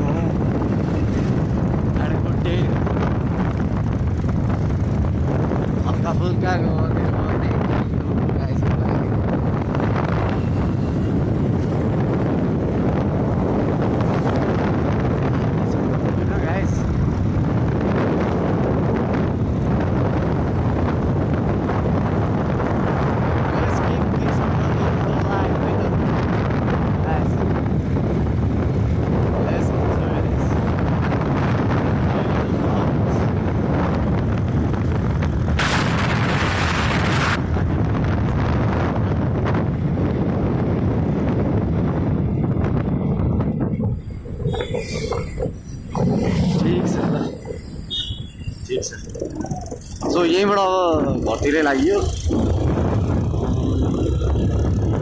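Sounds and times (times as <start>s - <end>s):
vehicle road noise: 0.0s - 55.0s
wind buffeting microphone: 0.0s - 55.0s.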